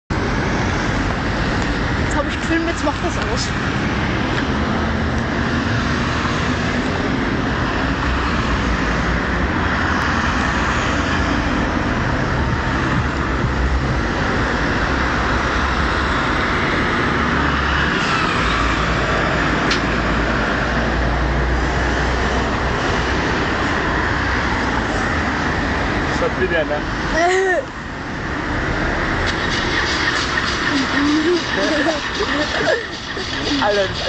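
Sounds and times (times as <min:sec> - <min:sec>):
motorway traffic noise: 0:00.1 - 0:34.0.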